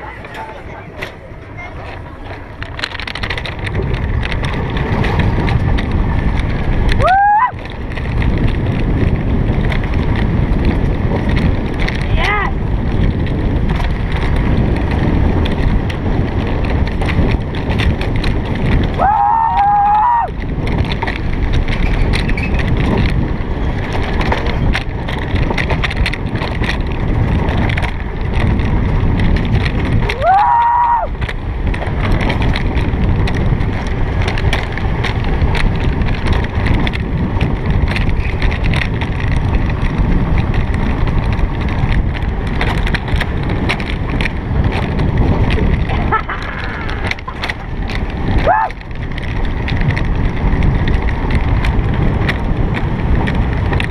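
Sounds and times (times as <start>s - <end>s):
wheels rumbling on rails: 0.0s - 53.9s
wind on microphone: 0.0s - 53.9s.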